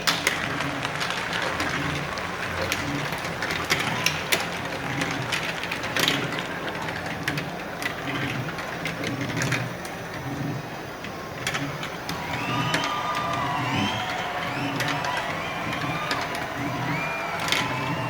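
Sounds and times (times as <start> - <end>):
marbles clicking: 0.0 - 18.0.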